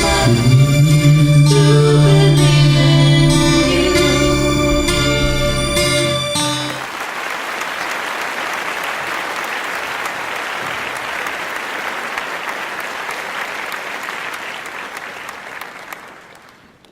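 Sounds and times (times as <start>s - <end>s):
audience applauding: 1.6s - 16.9s.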